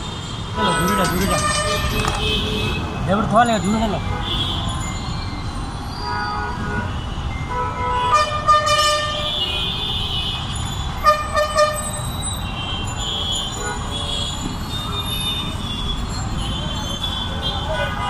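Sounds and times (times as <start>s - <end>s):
road traffic rumble: 0.0s - 18.0s
vehicle horns honking: 0.4s - 3.1s, 4.0s - 4.9s, 6.0s - 18.0s.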